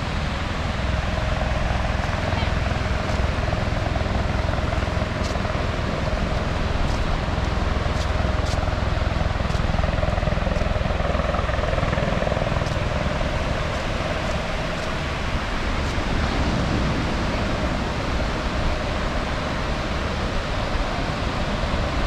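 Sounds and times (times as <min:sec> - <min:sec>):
ocean surf washing ashore: 0:00.0 - 0:22.0
wind rumbling on microphone: 0:00.0 - 0:22.0.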